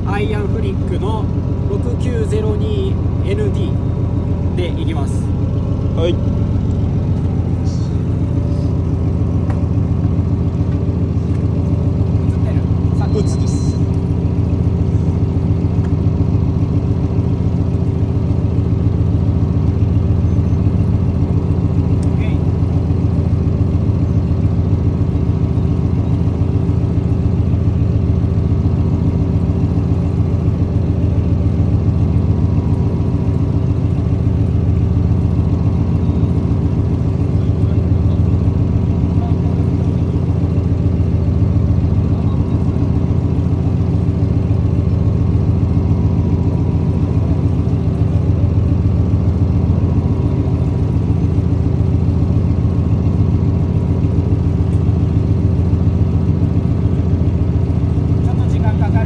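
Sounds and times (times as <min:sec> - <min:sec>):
boat engine running steadily: 0:00.0 - 0:59.0.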